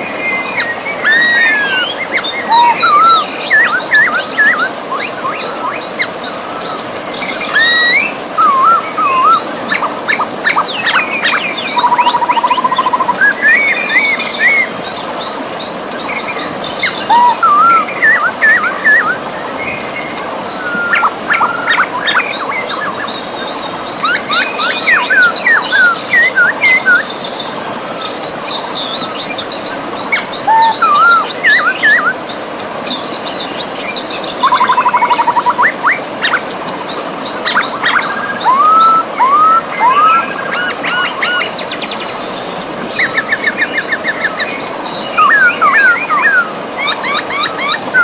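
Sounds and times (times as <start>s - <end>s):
river rushing: 0.0s - 48.0s
birds singing and chirping: 0.2s - 48.0s.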